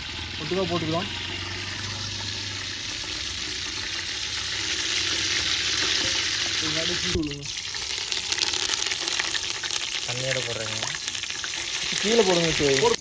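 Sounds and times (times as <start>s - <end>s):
oil sizzling with seeds: 0.0s - 13.0s.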